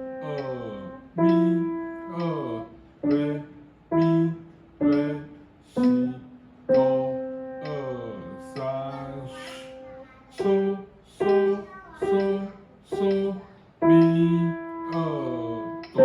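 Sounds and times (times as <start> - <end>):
slow piano notes: 0.0 - 16.0.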